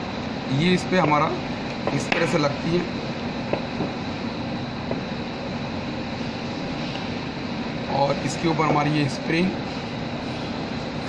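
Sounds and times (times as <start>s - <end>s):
background hum and hiss: 0.0s - 11.0s
faint high whine: 0.0s - 11.0s.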